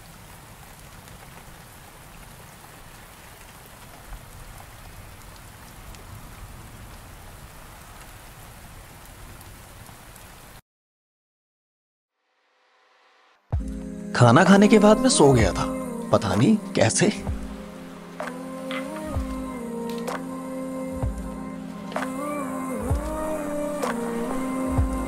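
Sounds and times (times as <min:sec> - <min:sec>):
heavy rain falling: 0:00.0 - 0:10.6, 0:13.6 - 0:25.0.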